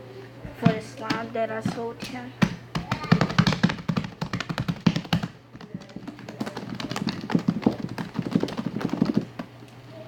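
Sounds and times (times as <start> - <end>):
rapid irregular clicking and tapping: 0.5 - 9.6.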